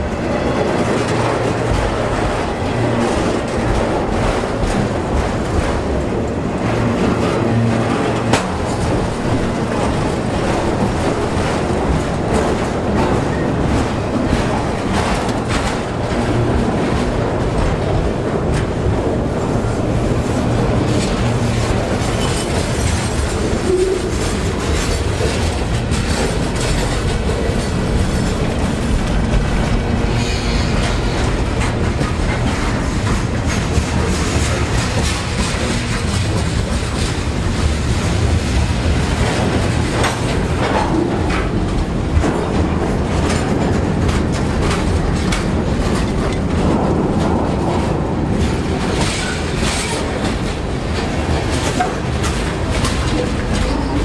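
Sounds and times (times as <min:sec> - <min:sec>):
freight train rumbling past: 0:00.0 - 0:54.0
wheels clacking over rail joints: 0:00.0 - 0:54.0.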